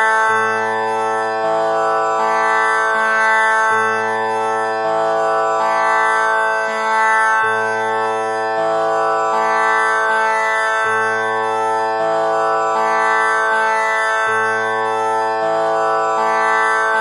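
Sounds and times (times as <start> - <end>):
tanpura drone: 0.0 - 17.0.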